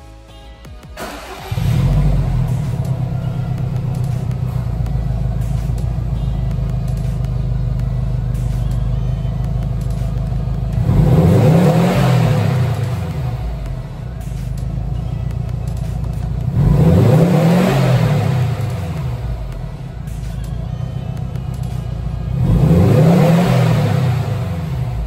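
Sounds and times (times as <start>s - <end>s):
car engine starting and idling: 0.8s - 25.0s
engine revving: 1.0s - 25.0s.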